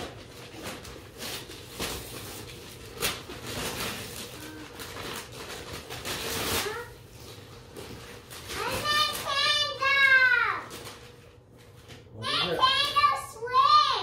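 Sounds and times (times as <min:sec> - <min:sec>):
wrapping paper rustling and tearing: 0:00.0 - 0:13.8.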